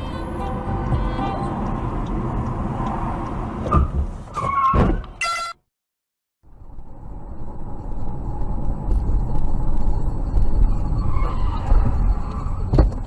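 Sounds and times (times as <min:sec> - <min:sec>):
car engine and road noise: 0:00.0 - 0:05.3, 0:06.4 - 0:13.0.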